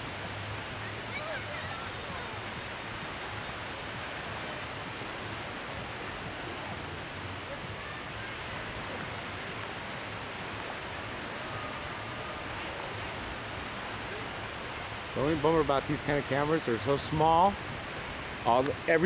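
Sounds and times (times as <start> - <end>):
gentle surf on sandy beach: 0.0 - 19.0
murmur of distant voices: 0.0 - 19.0.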